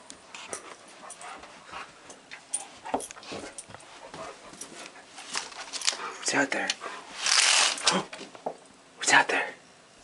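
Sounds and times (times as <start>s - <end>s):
light clicks and scuffles: 0.1s - 8.3s.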